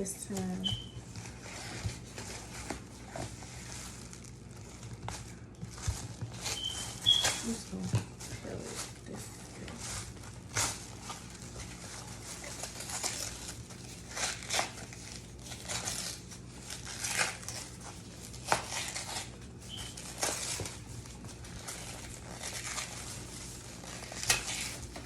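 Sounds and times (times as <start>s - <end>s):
plastic wrap crinkling: 0.0s - 25.0s.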